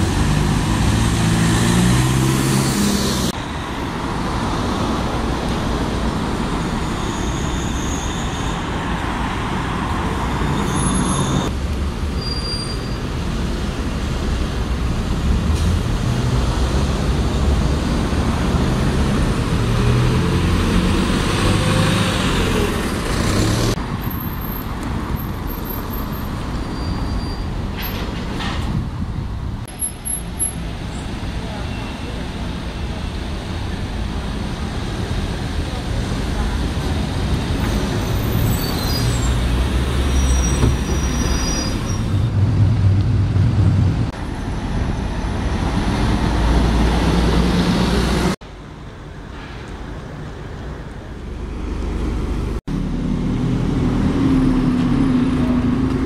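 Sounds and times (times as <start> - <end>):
bus engine rumbling: 0.0 - 56.0
street traffic: 0.0 - 56.0.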